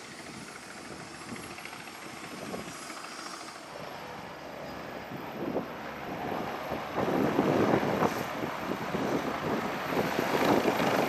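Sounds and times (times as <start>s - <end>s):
helicopter rotors and turbines running: 0.0s - 11.0s.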